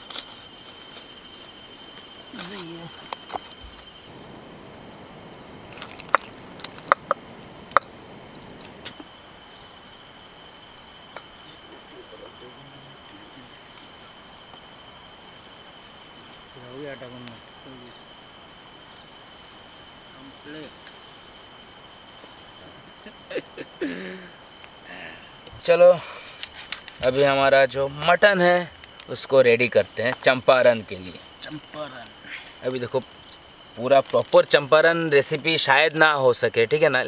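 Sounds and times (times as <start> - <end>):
crickets and insects trilling: 0.0 - 37.0.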